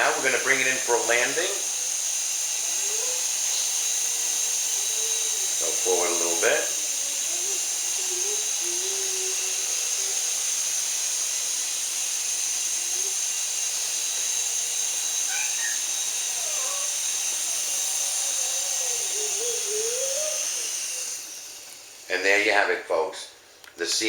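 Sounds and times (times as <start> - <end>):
toy helicopter motor whine: 0.0 - 23.0.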